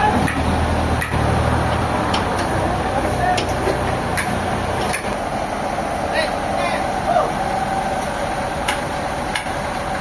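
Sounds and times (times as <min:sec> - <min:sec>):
sawmill machinery running: 0:00.1 - 0:10.0.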